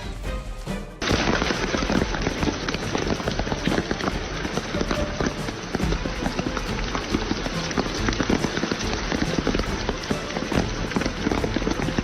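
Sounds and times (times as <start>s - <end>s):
hailstones clattering: 1.0s - 12.0s
heavy rain: 1.0s - 12.0s.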